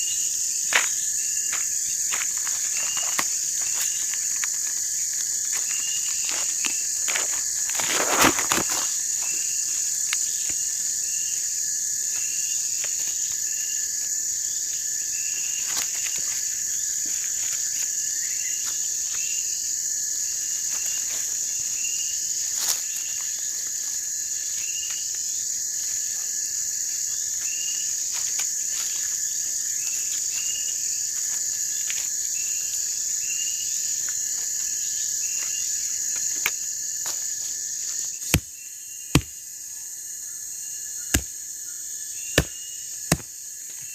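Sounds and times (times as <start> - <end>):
crickets and insects chorus: 0.0 - 43.9.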